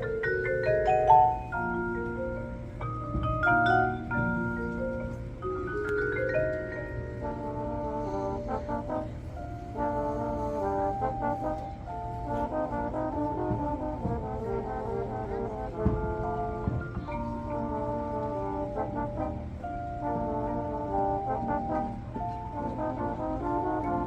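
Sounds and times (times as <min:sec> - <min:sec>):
brass chords: 0:00.0 - 0:24.0
mallet percussion runs: 0:00.0 - 0:24.0.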